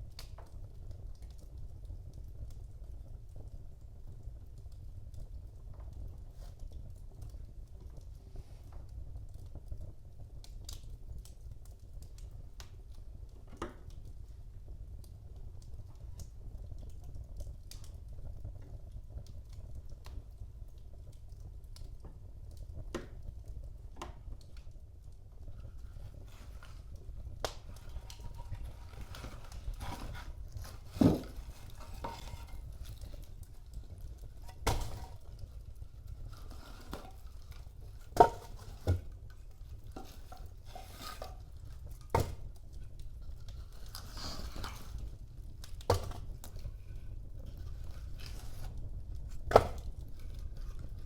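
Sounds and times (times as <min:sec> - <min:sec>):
fire crackling: 0:00.0 - 0:51.0
wood fire rumbling: 0:00.0 - 0:51.0.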